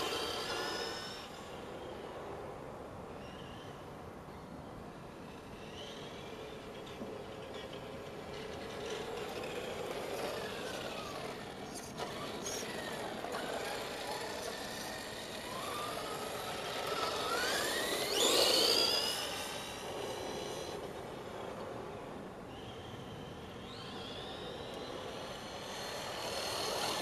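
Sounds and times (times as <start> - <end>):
rc car motor whining: 0.0 - 2.0, 5.2 - 27.0.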